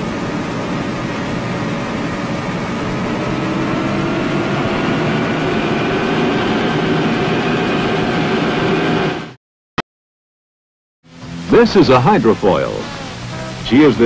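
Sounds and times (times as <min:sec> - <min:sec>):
gas turbine whining: 0:00.0 - 0:09.4, 0:11.1 - 0:14.0.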